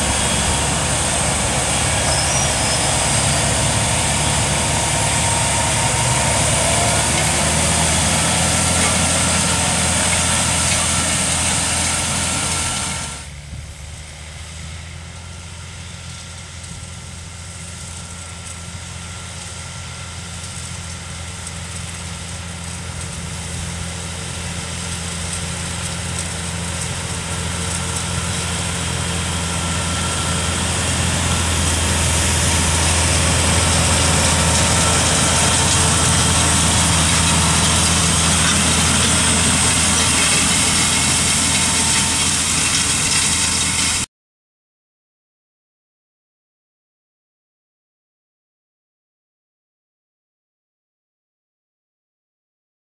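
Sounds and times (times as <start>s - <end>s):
distant engine hum: 0.0s - 44.1s
tractor diesel engine under load: 0.0s - 44.1s.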